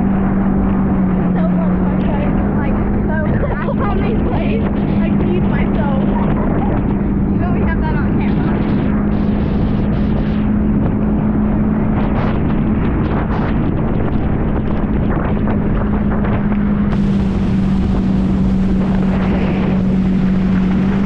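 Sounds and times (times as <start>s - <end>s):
steady low drone: 0.0s - 21.0s
water rushing and splashing: 0.0s - 21.0s
wind buffeting microphone: 0.0s - 21.0s.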